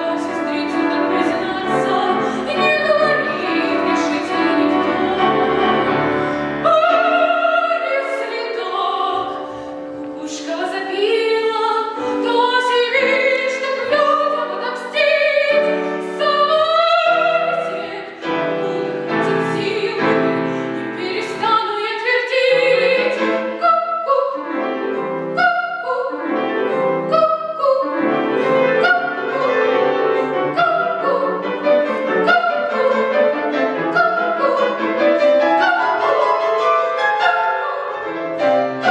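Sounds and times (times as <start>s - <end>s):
child singing classical song: 0.0s - 36.5s
piano accompaniment: 0.0s - 38.9s.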